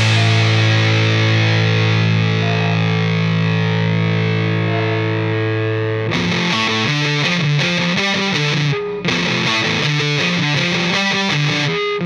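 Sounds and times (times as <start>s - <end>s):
distorted electric guitar: 0.0s - 12.0s.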